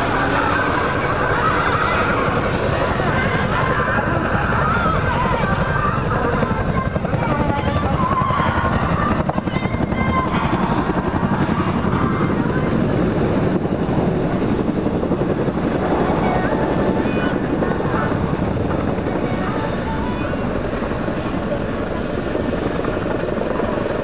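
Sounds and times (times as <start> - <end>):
helicopter rotors chopping: 0.0 - 24.0.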